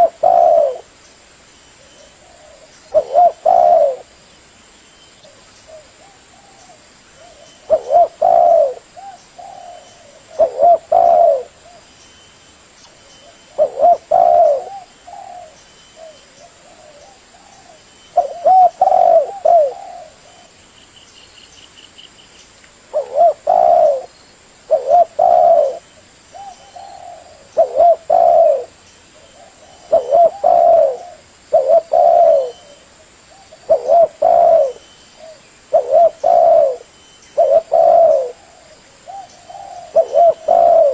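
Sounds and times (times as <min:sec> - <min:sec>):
dove cooing: 0:00.0 - 0:01.0, 0:01.9 - 0:04.2, 0:05.3 - 0:11.9, 0:13.2 - 0:20.6, 0:22.9 - 0:40.9.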